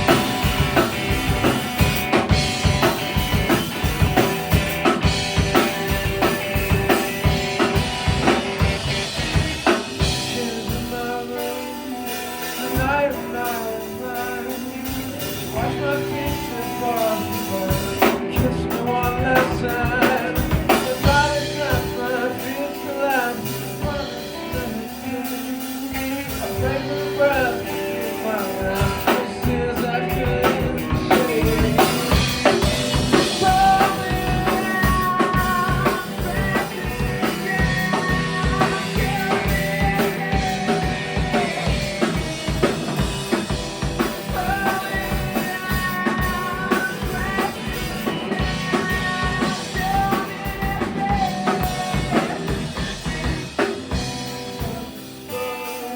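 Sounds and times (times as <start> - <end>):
drum kit beat: 0.0 - 55.9
held melody lines: 0.0 - 55.9
live band playing punk song: 0.0 - 55.9.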